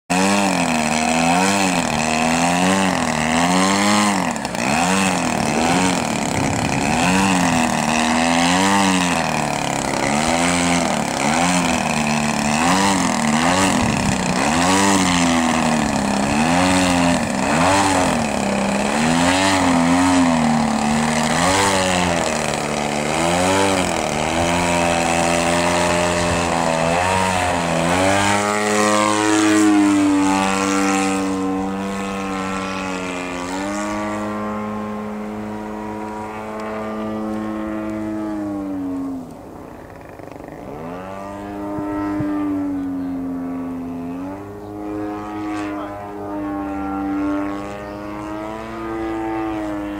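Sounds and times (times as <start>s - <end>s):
model plane engine and propeller: 0.1s - 49.9s.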